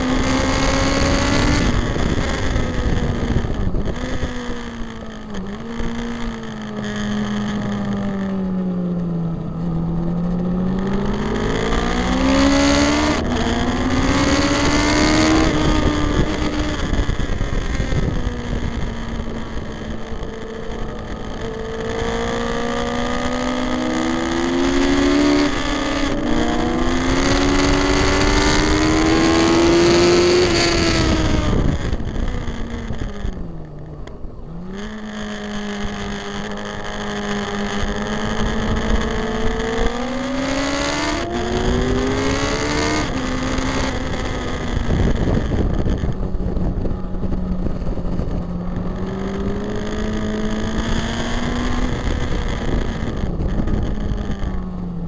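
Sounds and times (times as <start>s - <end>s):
wind rush: 0.0s - 8.8s, 9.4s - 33.6s, 34.6s - 55.0s
motorcycle engine revving high: 0.0s - 55.0s.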